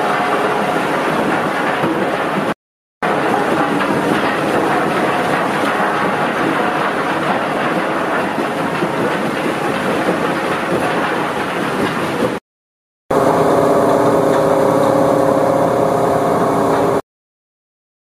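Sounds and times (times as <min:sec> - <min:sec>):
sand washing machine running: 0:00.0 - 0:12.4, 0:13.1 - 0:17.0.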